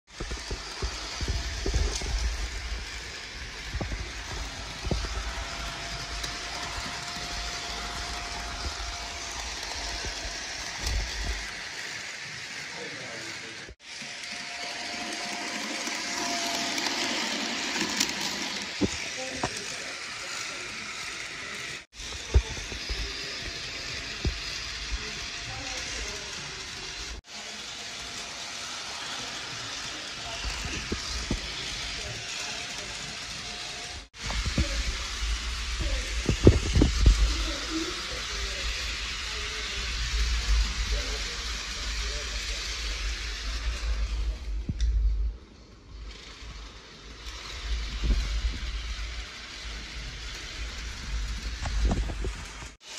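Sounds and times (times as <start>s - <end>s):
model train rolling hum: 0.1s - 52.9s.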